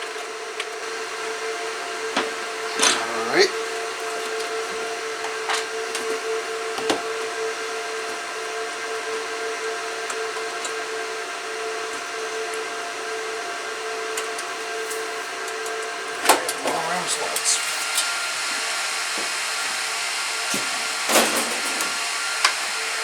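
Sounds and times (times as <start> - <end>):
server cooling fans whining: 0.3 - 23.0.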